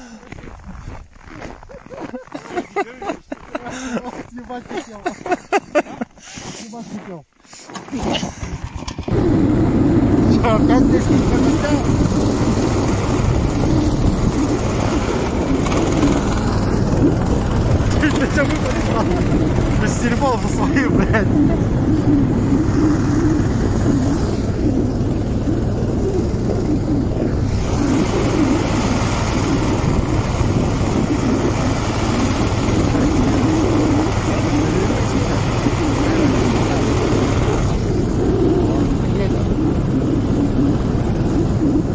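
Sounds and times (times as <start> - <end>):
small engine running steadily: 7.7 - 41.9.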